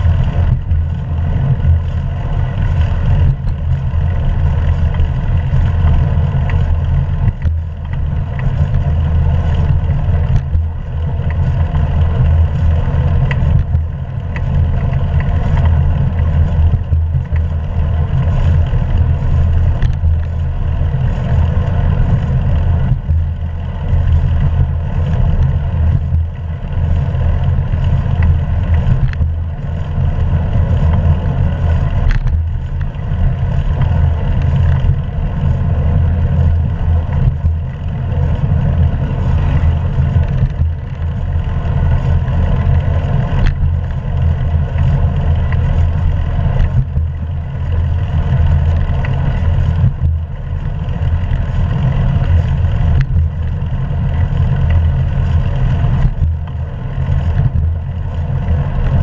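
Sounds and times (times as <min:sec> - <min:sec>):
bicycle road noise: 0:00.0 - 0:59.0
wind rumble: 0:00.0 - 0:59.0.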